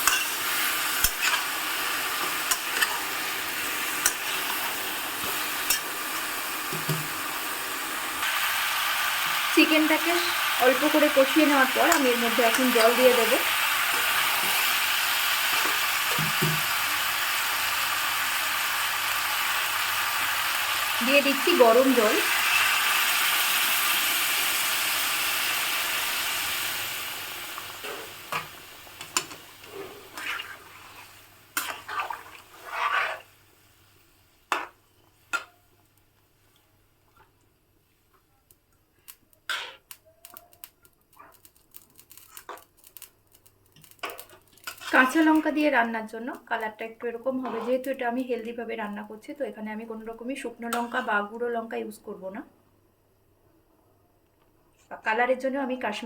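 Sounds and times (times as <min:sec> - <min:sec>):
food sizzling in oil: 0:00.0 - 0:35.5, 0:39.5 - 0:49.3.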